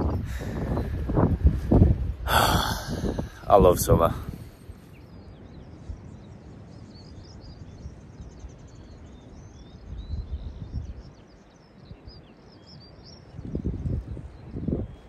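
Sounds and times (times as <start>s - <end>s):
songbirds chirping and trilling: 0.0s - 15.0s
wind rumble on microphone: 0.0s - 15.0s.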